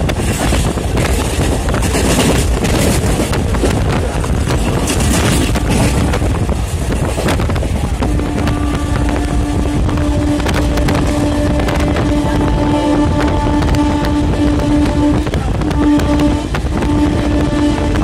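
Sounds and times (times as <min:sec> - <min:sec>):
rumbling train wheels: 0:00.0 - 0:18.0
rushing wind: 0:00.0 - 0:18.0
wind buffeting the microphone: 0:00.0 - 0:18.0.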